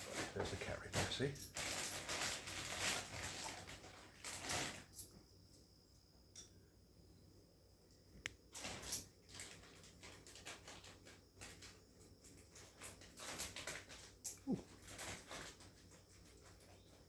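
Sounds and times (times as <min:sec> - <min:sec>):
faint rustling and scraping: 0:00.0 - 0:05.8, 0:08.4 - 0:17.0.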